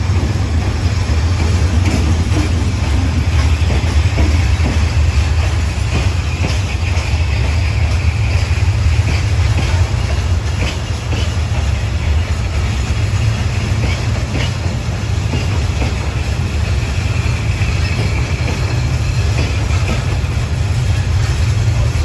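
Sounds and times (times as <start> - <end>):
freight train rumbling: 0.0 - 22.0
train wheel clicks: 0.0 - 22.0.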